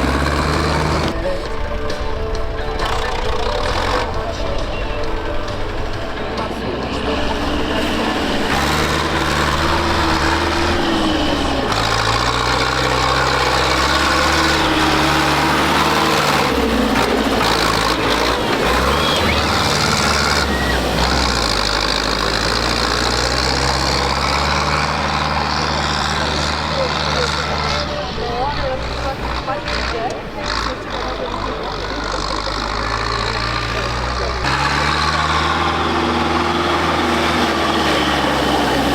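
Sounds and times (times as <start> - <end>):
tractor engines running: 0.0 - 38.9.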